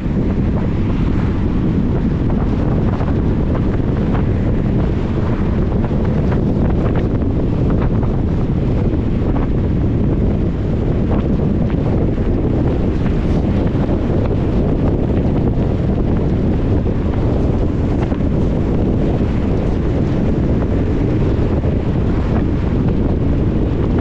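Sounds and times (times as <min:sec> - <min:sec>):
tyre and wind rumble: 0:00.0 - 0:24.0.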